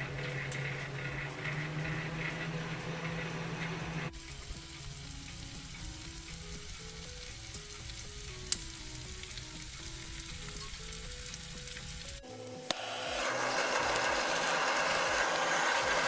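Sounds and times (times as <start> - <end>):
faint simple melody: 0.0 - 16.0
fish sizzling and crackling: 0.0 - 16.0
microwave oven running: 0.0 - 16.0.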